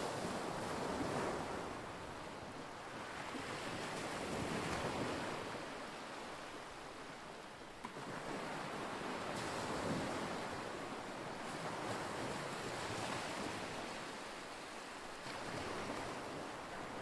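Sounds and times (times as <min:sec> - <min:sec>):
lake waves washing in: 0:00.0 - 0:17.0
wind: 0:00.0 - 0:17.0.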